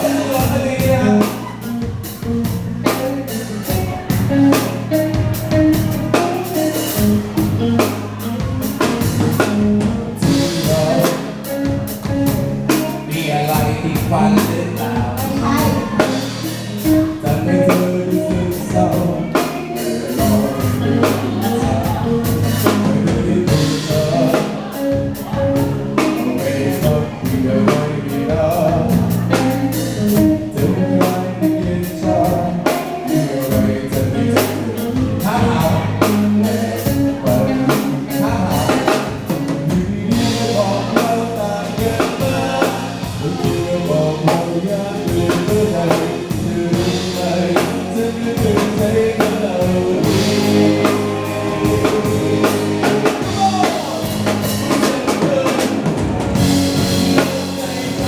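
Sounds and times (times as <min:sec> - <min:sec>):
bass: 0:00.0 - 0:58.0
drum kit beat: 0:00.0 - 0:58.0
guitar: 0:00.0 - 0:58.0
person singing: 0:00.0 - 0:58.0.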